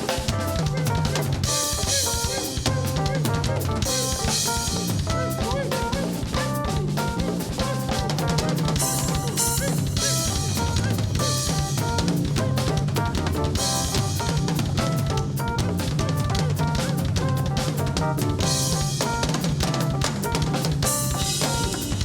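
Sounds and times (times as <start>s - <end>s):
drum kit beat: 0.0s - 22.0s
folk band playing: 0.0s - 22.0s.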